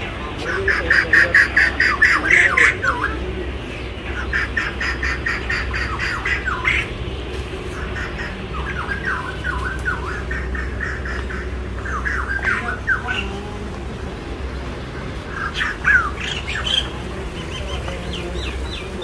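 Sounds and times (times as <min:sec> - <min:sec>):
birds squawking: 0:00.0 - 0:19.0
downward-sliding bird calls: 0:00.0 - 0:19.0.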